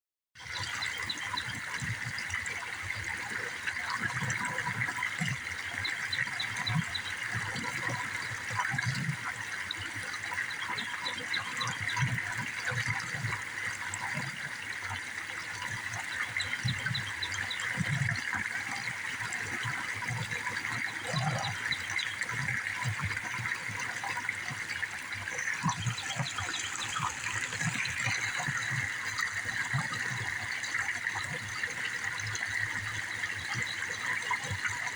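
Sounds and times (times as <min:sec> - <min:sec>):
running water: 0:00.4 - 0:34.9.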